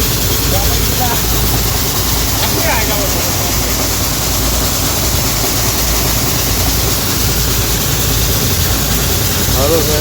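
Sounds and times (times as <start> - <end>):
combine harvester engine rumble: 0.0 - 10.0
mechanical hiss: 0.0 - 10.0.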